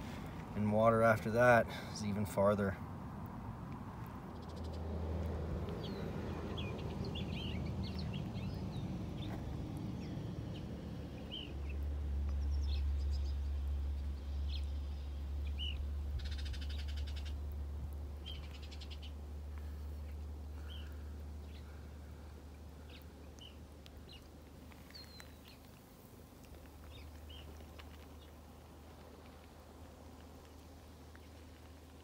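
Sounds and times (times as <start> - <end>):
steady low rumble: 0.0 - 32.0
wild birds chirping: 4.0 - 32.0.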